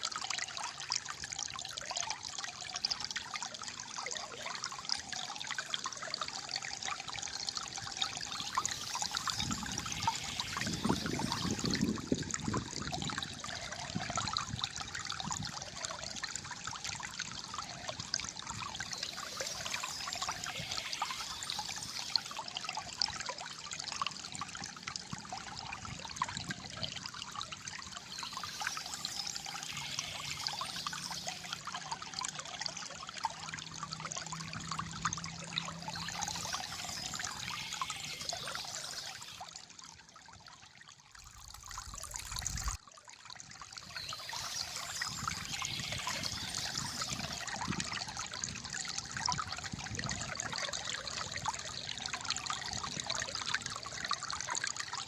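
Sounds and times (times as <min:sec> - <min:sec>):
water gurgling over stones: 0:00.0 - 0:55.0.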